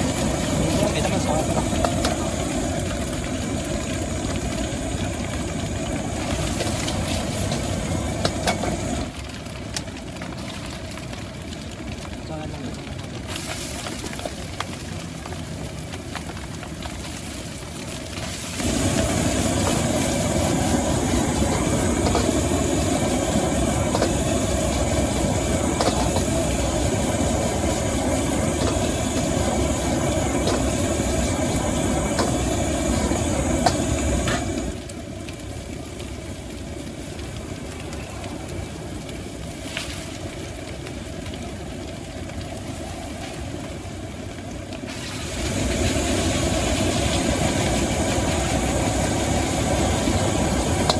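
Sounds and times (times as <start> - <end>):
gas burner roaring: 0.0 - 50.9.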